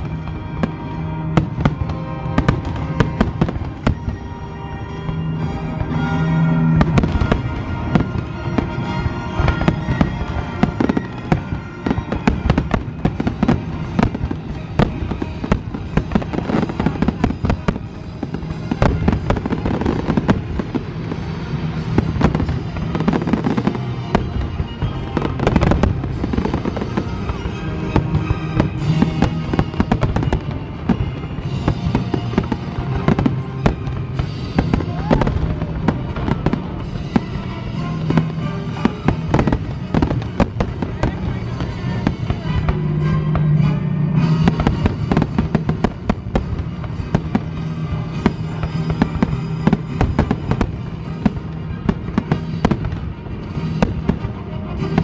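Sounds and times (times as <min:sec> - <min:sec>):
fireworks bursting: 0:00.0 - 0:55.0
music with held notes: 0:00.0 - 0:55.0.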